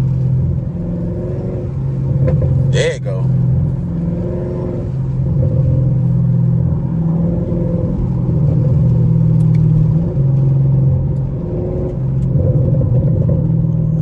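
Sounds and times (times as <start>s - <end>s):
car exhaust drone: 0.0s - 14.0s.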